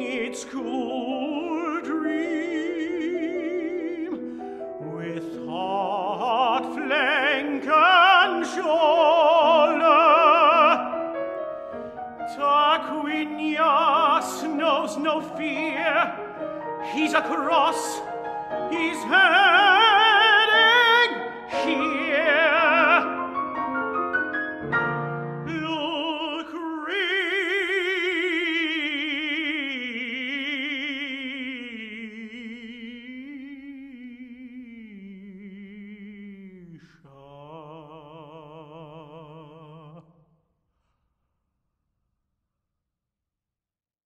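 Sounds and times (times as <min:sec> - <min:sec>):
tenor singing with vibrato: 0:00.0 - 0:11.0, 0:12.2 - 0:23.6, 0:25.3 - 0:40.0.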